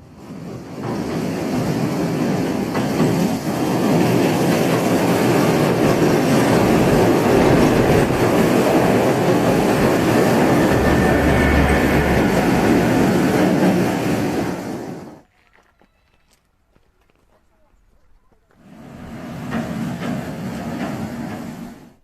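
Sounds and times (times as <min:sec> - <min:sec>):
train wheels clattering on track: 0:00.0 - 0:15.1, 0:18.6 - 0:22.0.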